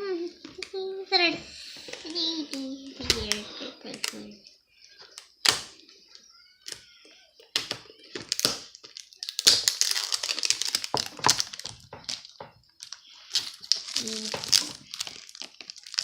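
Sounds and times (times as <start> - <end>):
plastic packet crinkling: 2.0 - 4.3, 5.0 - 16.0.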